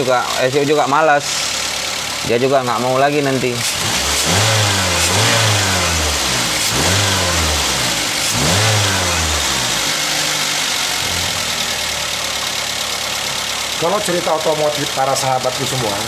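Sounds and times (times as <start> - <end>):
car engine running rough: 0.0 - 16.0.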